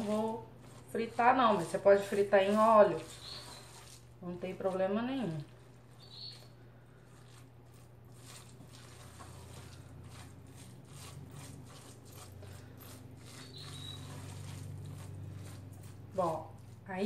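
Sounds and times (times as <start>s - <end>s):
food squishing kneaded by hand: 0.0s - 17.0s.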